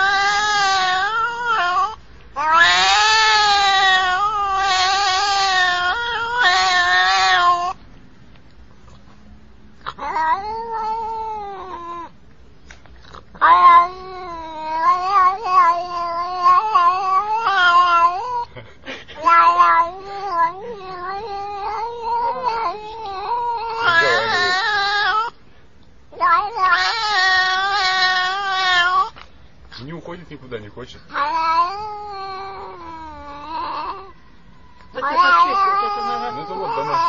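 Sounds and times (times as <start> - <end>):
cat meowing: 0.0 - 7.8, 9.8 - 12.2, 13.2 - 18.5, 19.2 - 25.4, 26.1 - 29.2, 31.1 - 37.0.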